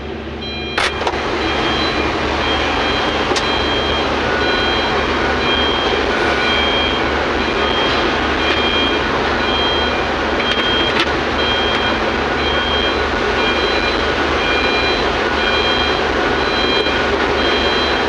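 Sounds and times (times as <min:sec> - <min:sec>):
heavy machinery running: 0:00.0 - 0:18.0
reversing alarm beeps: 0:00.4 - 0:18.0.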